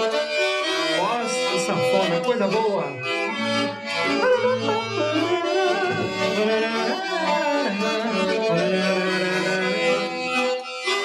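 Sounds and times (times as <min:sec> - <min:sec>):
accordion playing a melody: 0:00.0 - 0:11.0.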